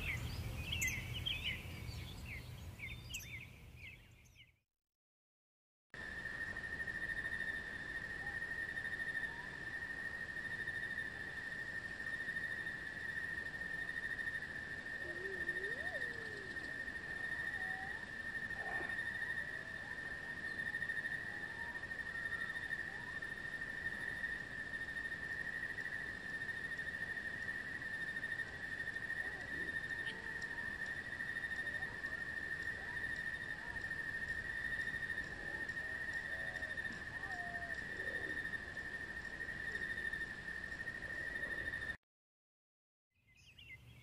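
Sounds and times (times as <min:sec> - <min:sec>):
insects chirring: 0:00.0 - 0:04.0, 0:06.0 - 0:42.0.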